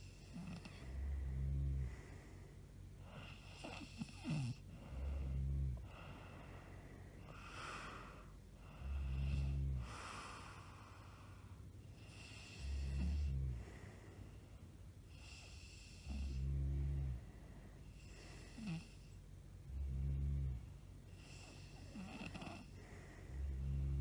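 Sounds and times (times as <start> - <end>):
woman snoring: 0.0 - 2.3, 3.1 - 6.5, 7.3 - 11.4, 12.0 - 14.0, 15.1 - 17.3, 17.9 - 24.0.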